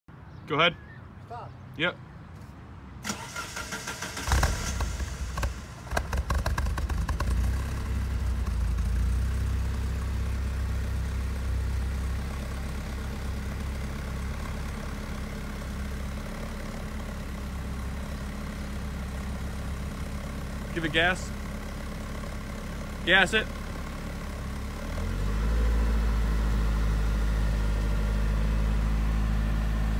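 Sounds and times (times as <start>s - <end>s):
car engine idling: 3.1s - 29.9s.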